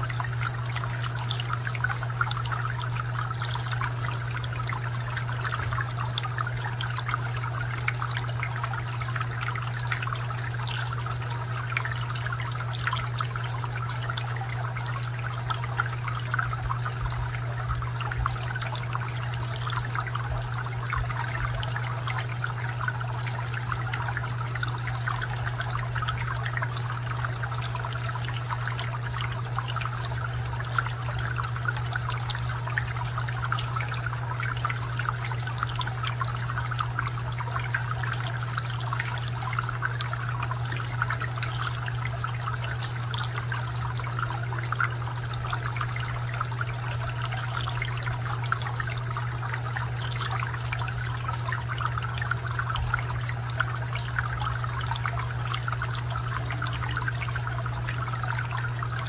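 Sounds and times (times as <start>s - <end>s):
fountain water trickling and splashing: 0.0s - 59.0s.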